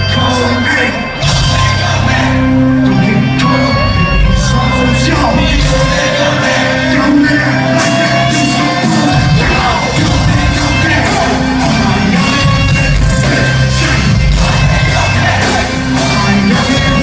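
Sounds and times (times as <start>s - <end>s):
live rock music: 0.0s - 17.0s
person singing and shouting: 0.0s - 17.0s.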